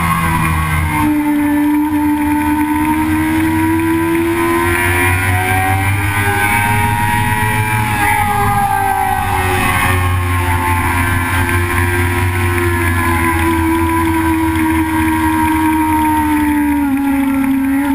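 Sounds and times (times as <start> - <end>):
race car engine at high revs: 0.0 - 17.9
steady rush of noise: 0.0 - 17.9.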